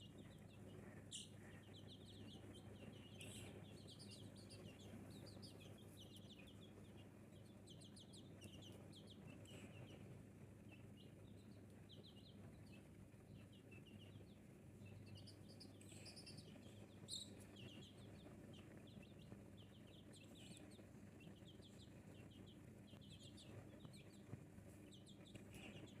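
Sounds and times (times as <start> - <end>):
chicks peeping: 0.0 - 26.0
steady low hum: 0.0 - 26.0.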